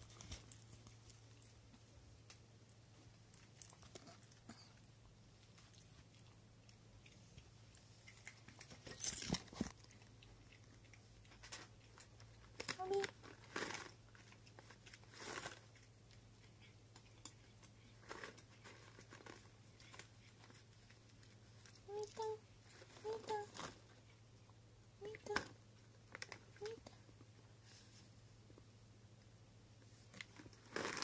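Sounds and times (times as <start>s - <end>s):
cats crunching treats: 3.0s - 27.3s, 30.0s - 31.0s.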